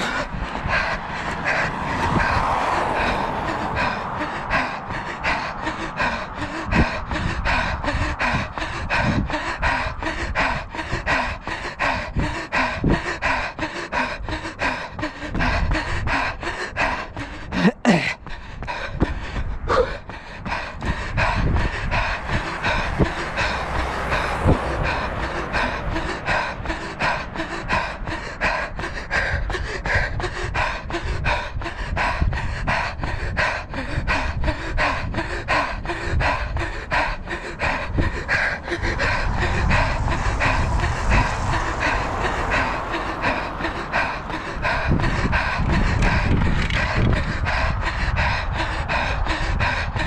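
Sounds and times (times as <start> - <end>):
heavy panting breaths: 0.0 - 50.0
running footsteps on asphalt: 0.0 - 50.0.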